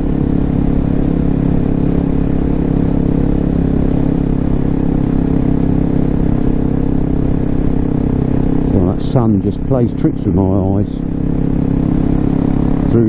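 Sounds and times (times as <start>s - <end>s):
motorcycle engine at steady revs: 0.0s - 13.0s.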